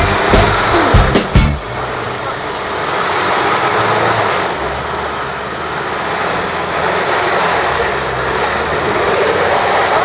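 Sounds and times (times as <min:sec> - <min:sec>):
truck engine pulling under load: 0:00.0 - 0:10.0.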